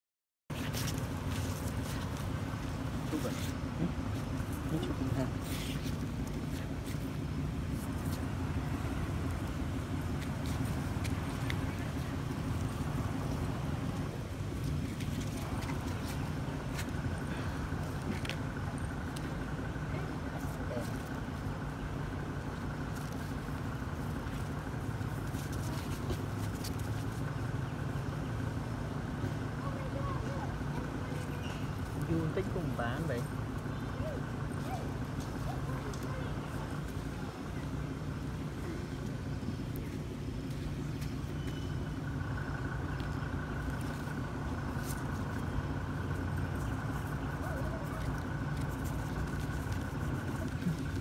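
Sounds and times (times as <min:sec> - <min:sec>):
steady low hum: 0:00.5 - 0:51.0.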